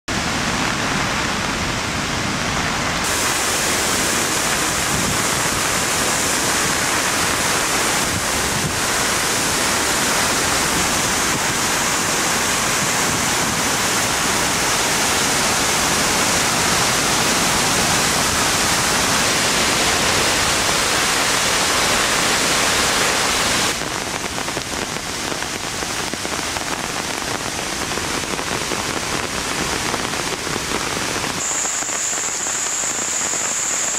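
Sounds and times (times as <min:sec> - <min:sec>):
torrential rain: 0:00.1 - 0:33.9
waterfall rushing: 0:00.1 - 0:33.9.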